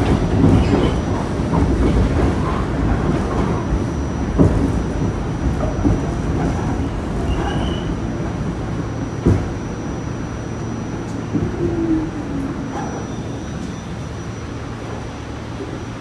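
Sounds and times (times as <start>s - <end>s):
rail clack: 0.0s - 16.0s
subway train rumbling: 0.0s - 16.0s.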